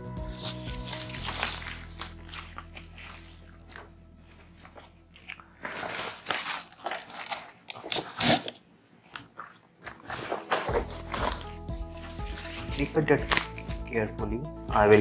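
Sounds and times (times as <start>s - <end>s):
packaging wrap crinkling: 0.2s - 13.9s.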